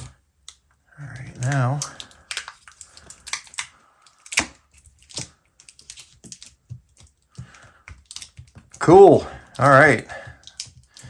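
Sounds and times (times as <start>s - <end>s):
small tools clicking and tapping: 0.0s - 11.0s.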